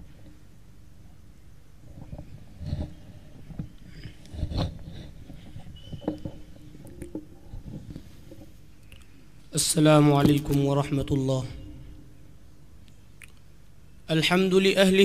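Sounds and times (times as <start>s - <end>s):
sound system hum: 0.0s - 15.0s.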